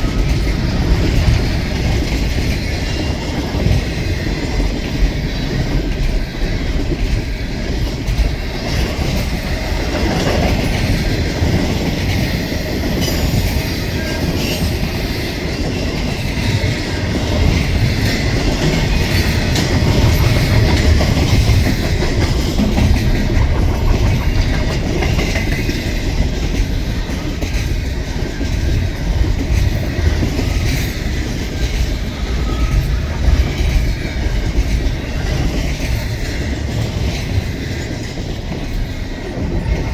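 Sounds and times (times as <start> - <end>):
freight train wheels rumbling: 0.0 - 39.9
wheels clicking over rail joints: 0.0 - 39.9.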